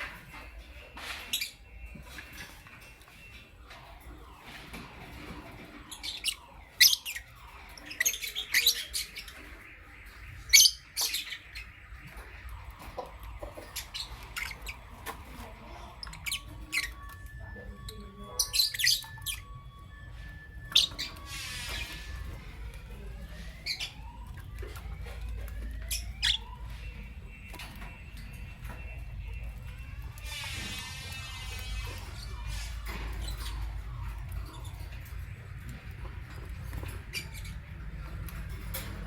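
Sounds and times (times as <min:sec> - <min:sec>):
lovebirds chirping and squawking: 0:00.0 - 0:39.0.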